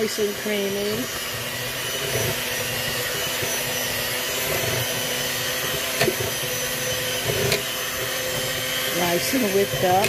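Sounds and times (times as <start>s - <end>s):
electric hand mixer running: 0.0s - 10.0s.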